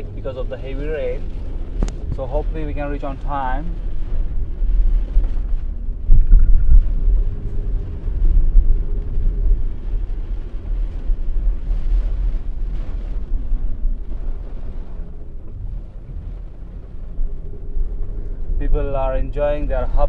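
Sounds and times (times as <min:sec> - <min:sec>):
car cabin engine and road rumble: 0:00.0 - 0:20.0.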